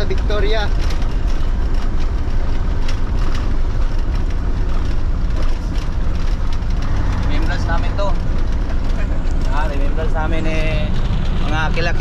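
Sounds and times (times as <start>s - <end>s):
diesel truck engine drone: 0.0s - 12.0s
road noise: 0.0s - 12.0s.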